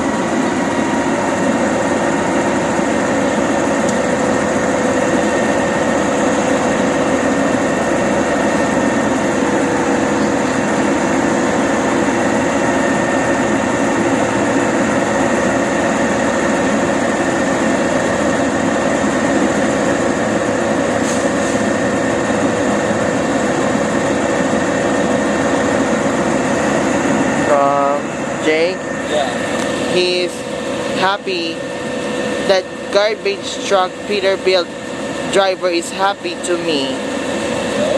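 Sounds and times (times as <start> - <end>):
constant whine: 0.0 - 37.9
diesel truck engine running: 0.0 - 37.9.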